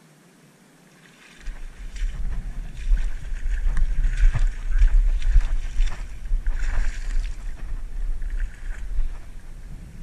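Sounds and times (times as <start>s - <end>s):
wind rumble on microphone: 1.4s - 10.0s.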